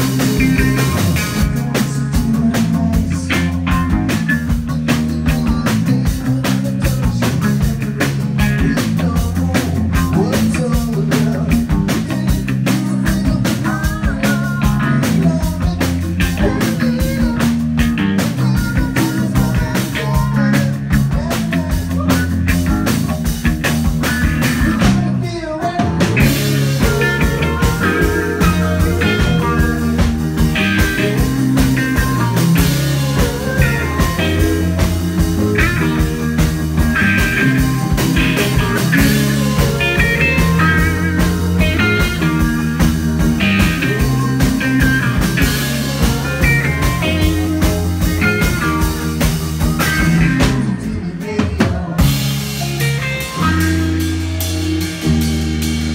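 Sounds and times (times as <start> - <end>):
bass guitar: 0.0 - 55.9
electric guitar: 0.0 - 55.9
steady drum beat: 0.0 - 55.9.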